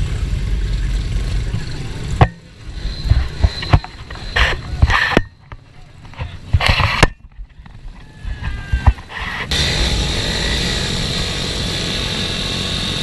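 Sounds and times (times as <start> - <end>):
pit bike engine: 0.0 - 13.0.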